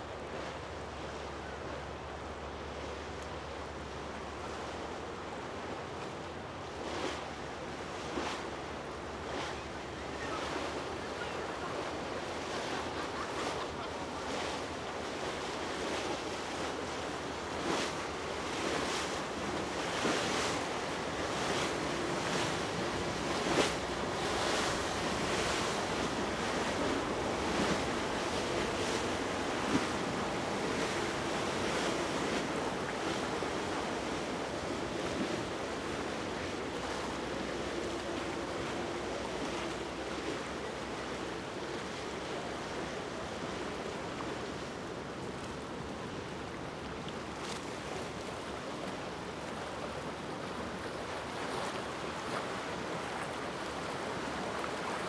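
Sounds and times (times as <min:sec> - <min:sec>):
choppy sea water: 0:00.0 - 0:55.0
faint boat engine drone: 0:00.0 - 0:55.0.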